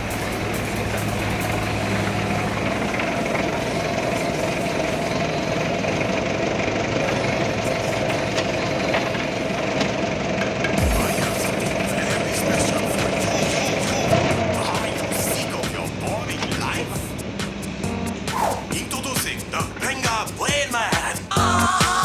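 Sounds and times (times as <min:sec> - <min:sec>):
forklift engine idling: 0:00.0 - 0:22.0
steady whine: 0:00.0 - 0:22.0.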